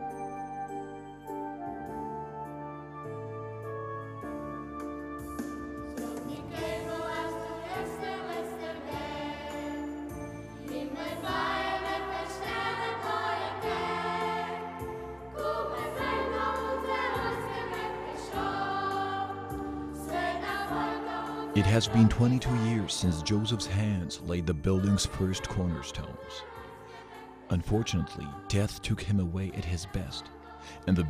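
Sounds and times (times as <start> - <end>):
choir of young voices singing: 5.9 - 31.0.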